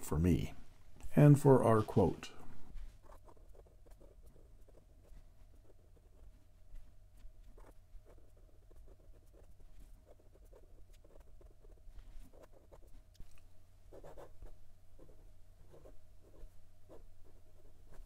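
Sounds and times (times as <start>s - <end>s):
pen nib scratching on paper: 2.9s - 18.0s.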